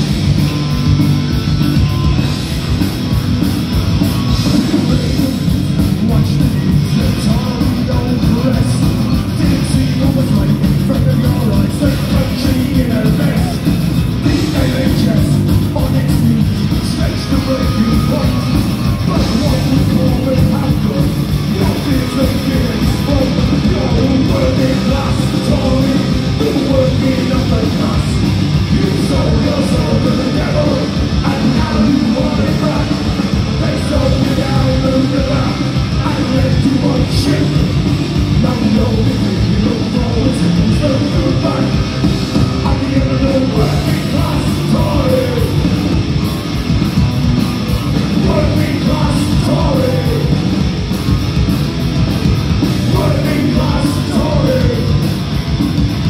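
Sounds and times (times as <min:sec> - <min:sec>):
punk rock band playing: 0:00.0 - 0:56.0
singer's vocals: 0:04.3 - 0:46.1, 0:48.0 - 0:50.8, 0:52.6 - 0:55.2.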